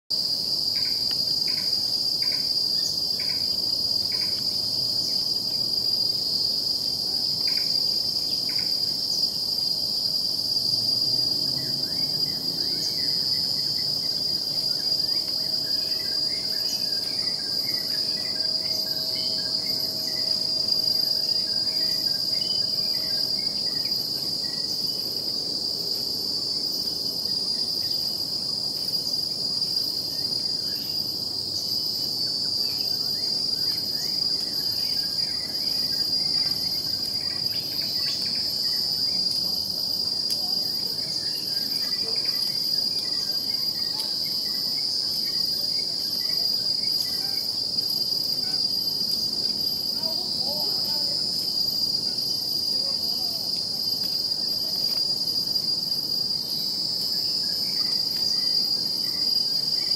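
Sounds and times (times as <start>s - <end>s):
high-pitched insect drone: 0.2s - 59.9s.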